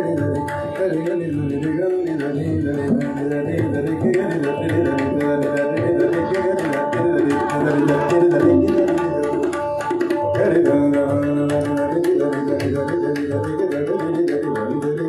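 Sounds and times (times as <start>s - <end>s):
sitar melody: 0.0s - 13.2s
man singing into microphone: 0.0s - 15.0s
tabla rapid strokes: 0.0s - 15.0s.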